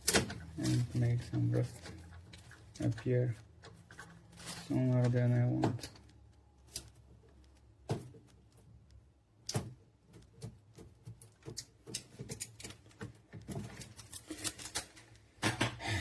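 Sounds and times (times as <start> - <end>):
clicks and knocks of handled parts: 0.0 - 15.8.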